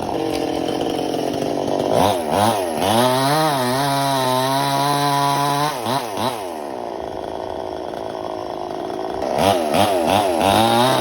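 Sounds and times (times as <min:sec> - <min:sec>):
chainsaw revving: 0:00.0 - 0:11.0.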